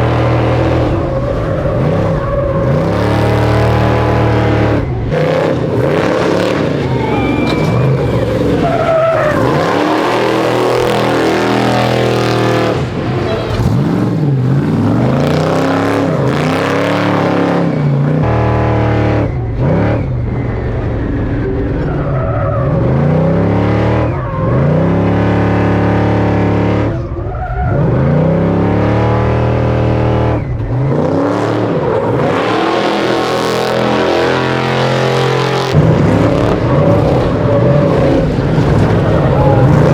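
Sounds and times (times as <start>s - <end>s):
truck engine revving hard: 0.0s - 39.9s.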